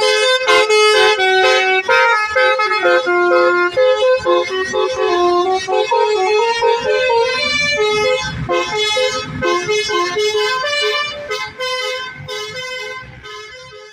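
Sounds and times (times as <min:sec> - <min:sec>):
musical bus horn melody: 0:00.0 - 0:13.9.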